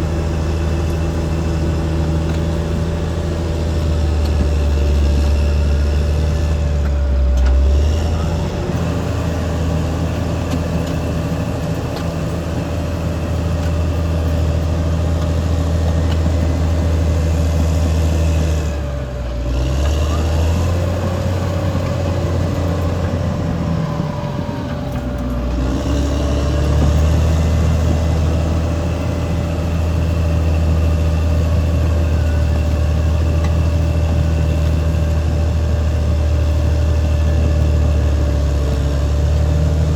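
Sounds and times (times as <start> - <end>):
bulldozer diesel engine: 0.0 - 39.9
constant whine: 0.0 - 39.9.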